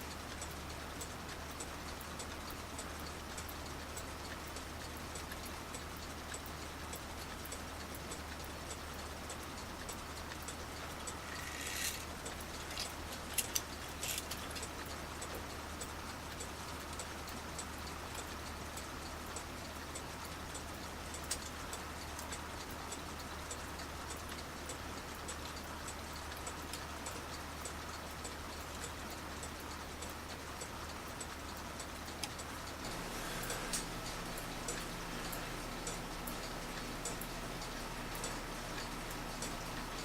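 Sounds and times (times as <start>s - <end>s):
clock ticking: 0.1s - 33.0s.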